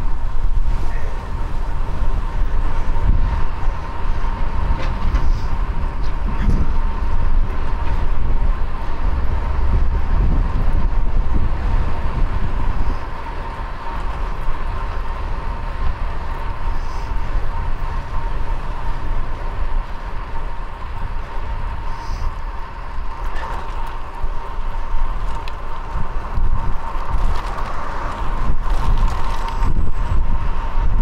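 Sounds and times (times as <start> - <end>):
road rumble: 0.0 - 31.0
wind buffeting microphone: 0.0 - 31.0.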